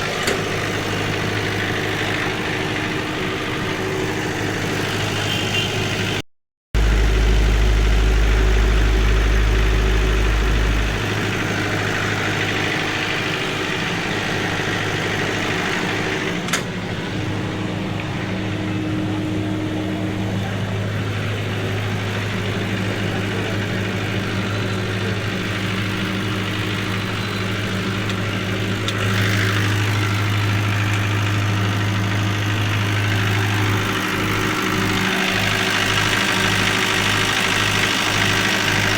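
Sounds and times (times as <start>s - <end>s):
diesel engine idling: 0.0s - 6.2s, 6.8s - 38.9s.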